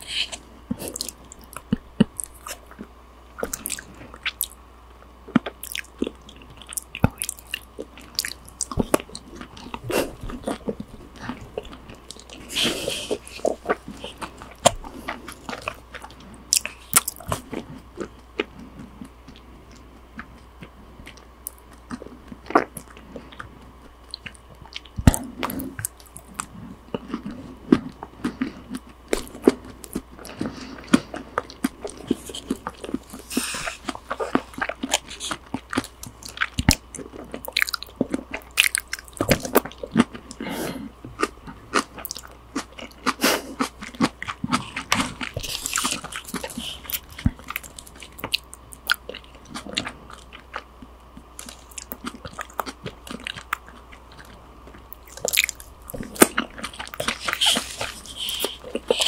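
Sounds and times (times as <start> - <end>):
chewing and wet mouth sounds: 0.0 - 59.0.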